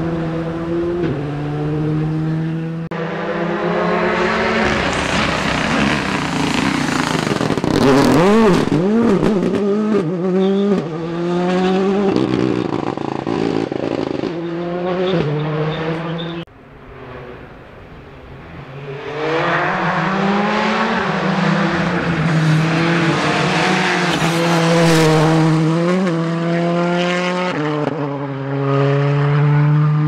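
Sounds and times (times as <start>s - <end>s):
rally car engines revving past: 0.0s - 30.0s.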